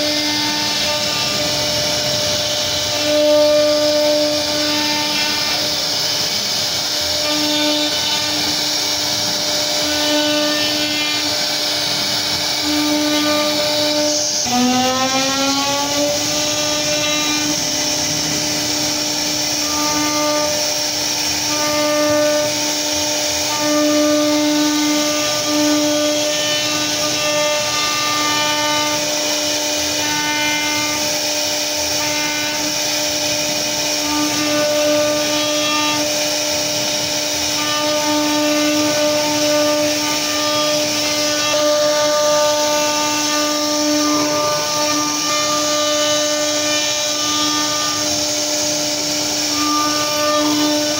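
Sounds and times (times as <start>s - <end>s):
bit cutting wood hiss: 0.0s - 50.9s
router spindle whining: 0.0s - 50.9s.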